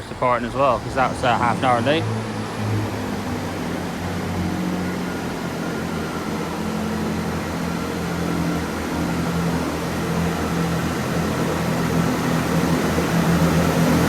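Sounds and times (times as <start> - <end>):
diesel train engine idling: 0.0 - 14.0.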